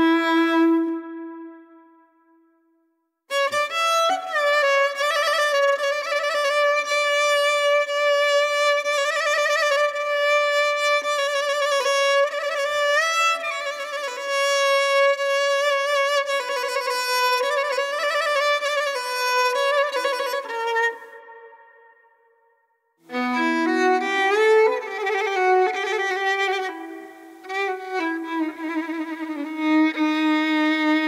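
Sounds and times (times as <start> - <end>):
slow violin melody: 0.0 - 2.2, 3.3 - 22.1, 23.0 - 31.0.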